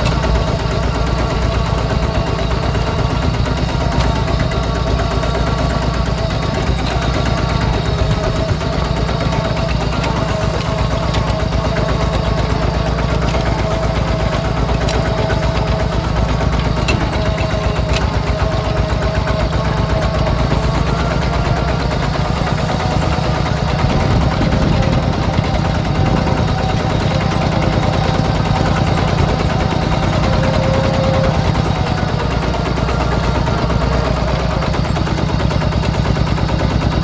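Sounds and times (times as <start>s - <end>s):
diesel tractor engine chugging: 0.0s - 37.0s.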